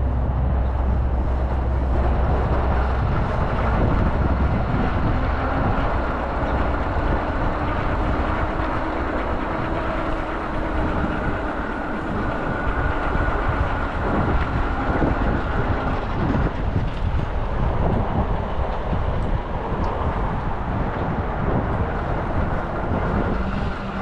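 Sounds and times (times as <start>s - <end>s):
moving vehicle rumble and hiss: 0.0s - 24.0s.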